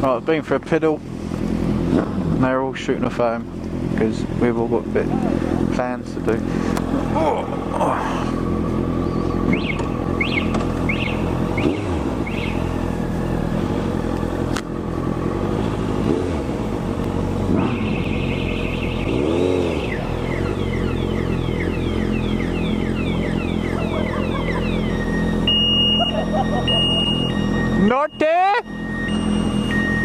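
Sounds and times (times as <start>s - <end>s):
motorcycle engine revving: 0.0s - 30.0s
motorcycle engine idling: 3.2s - 27.7s.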